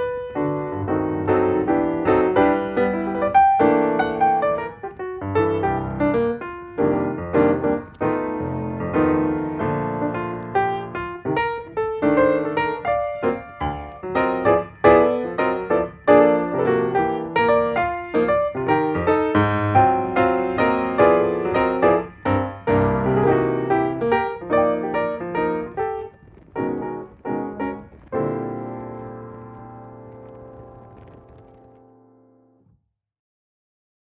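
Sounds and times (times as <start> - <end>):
piano music: 0.0 - 32.5.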